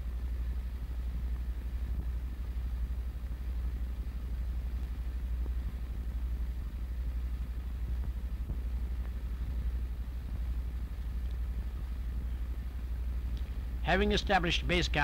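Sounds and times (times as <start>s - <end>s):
fluttering film soundtrack hum: 0.0s - 15.0s.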